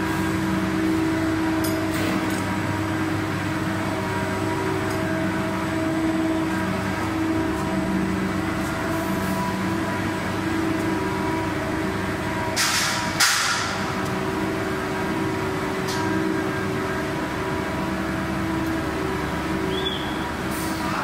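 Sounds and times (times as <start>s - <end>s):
extrusion machine hum: 0.0s - 21.0s.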